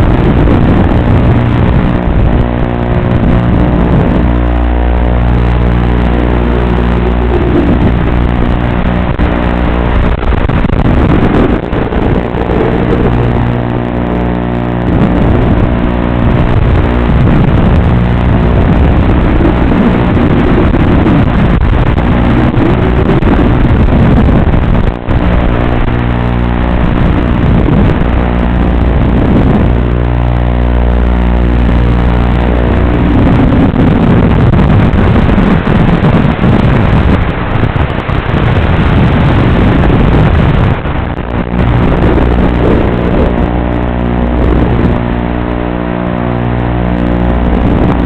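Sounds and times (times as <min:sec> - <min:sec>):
drone motors and propellers whining: 0:00.0 - 0:48.0.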